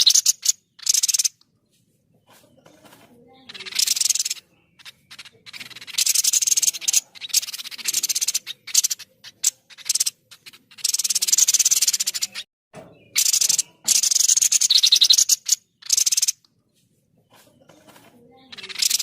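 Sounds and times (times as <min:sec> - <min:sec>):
bird rattling trills: 0:00.0 - 0:01.4, 0:02.7 - 0:12.5, 0:13.1 - 0:16.4, 0:17.7 - 0:19.0.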